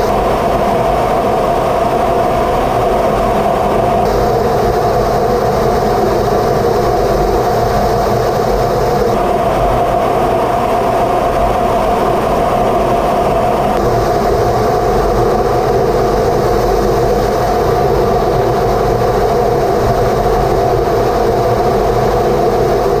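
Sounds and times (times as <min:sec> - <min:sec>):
jet cockpit engine roar: 0:00.0 - 0:23.0.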